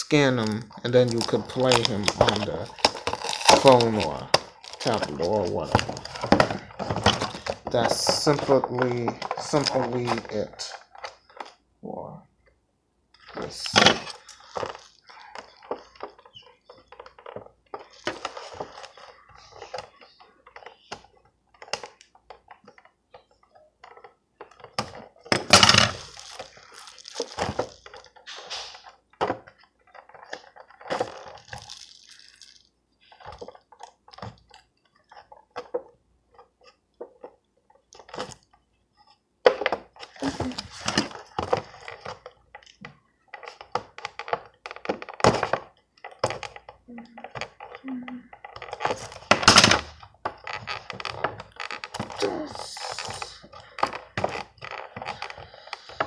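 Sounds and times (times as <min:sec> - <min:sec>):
plastic packaging crinkling: 0:00.2 - 0:11.6, 0:13.2 - 0:39.2, 0:39.9 - 0:56.0.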